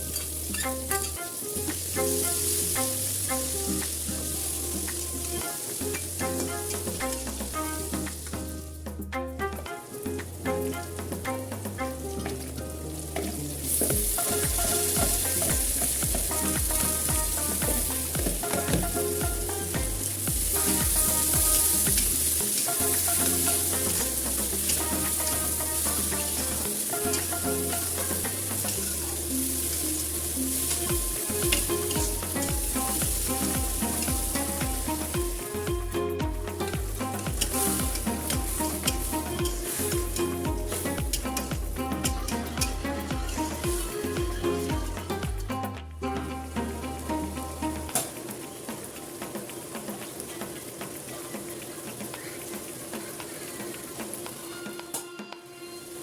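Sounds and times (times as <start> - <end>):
food sizzling in hot oil: 0.0 - 45.5, 46.1 - 54.9
background music with bass line: 0.0 - 51.0
stirring in a pan: 0.0 - 54.5.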